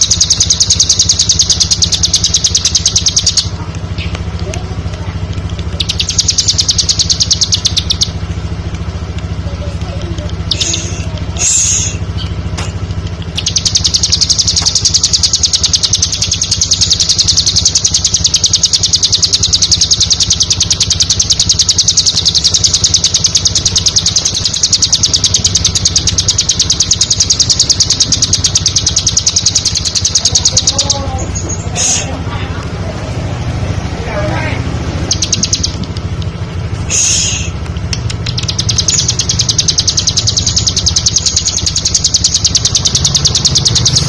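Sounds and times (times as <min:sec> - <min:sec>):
bird chirping and trilling: 0:00.0 - 0:04.2, 0:05.5 - 0:08.4, 0:09.6 - 0:32.1, 0:33.8 - 0:44.0
steady low hum: 0:00.0 - 0:44.0.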